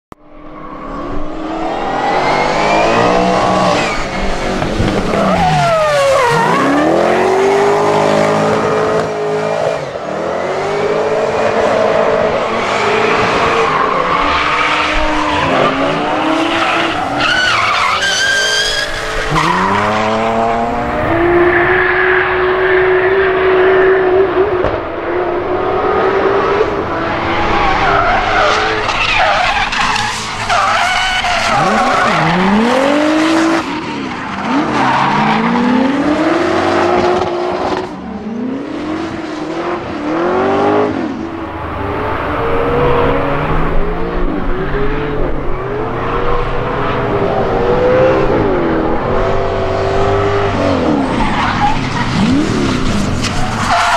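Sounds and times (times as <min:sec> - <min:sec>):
car engines revving hard: 0:00.9 - 0:53.9.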